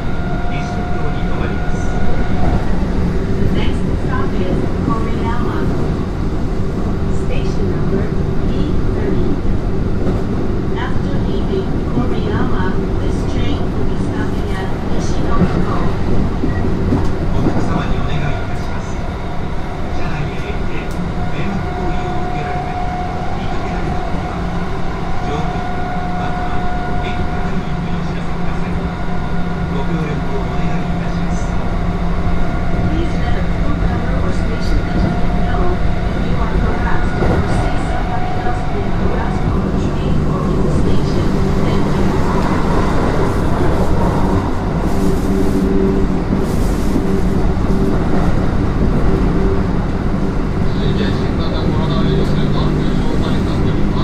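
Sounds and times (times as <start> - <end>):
train low hum: 0.0 - 54.0
train wheels rumbling on rail: 0.0 - 54.0.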